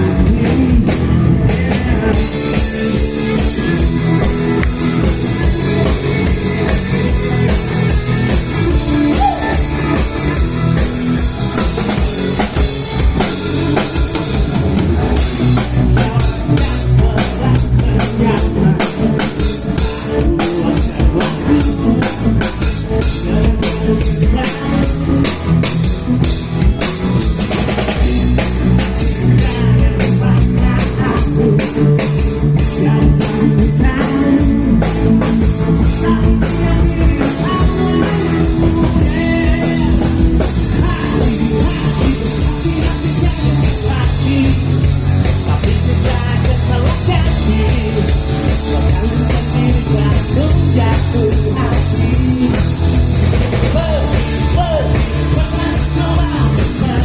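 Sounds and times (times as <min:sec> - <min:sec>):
drum kit beating: 0:00.0 - 0:57.0
rock band playing live: 0:00.0 - 0:57.0.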